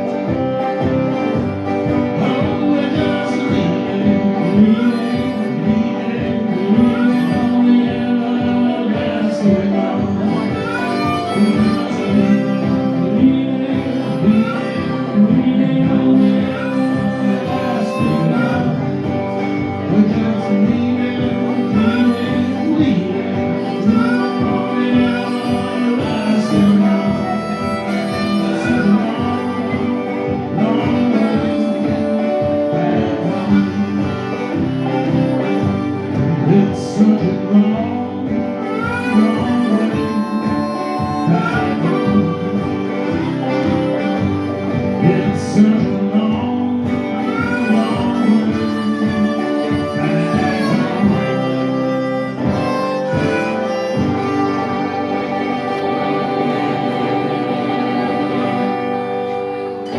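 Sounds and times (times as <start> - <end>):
guitar accompaniment: 0.0 - 59.9
lead line with pitch bends: 0.0 - 59.9.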